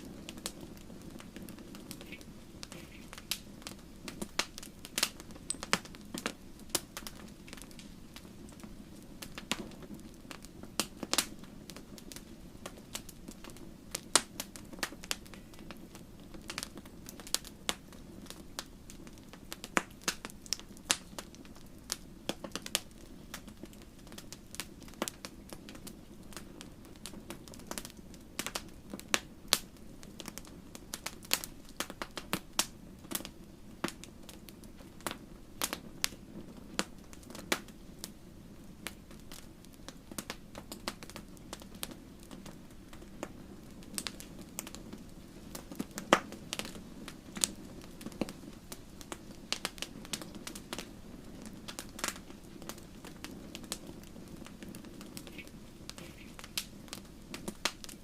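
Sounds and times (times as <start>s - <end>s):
low rumble of flame: 0.0s - 58.0s
wood fire crackling and popping: 0.0s - 58.0s.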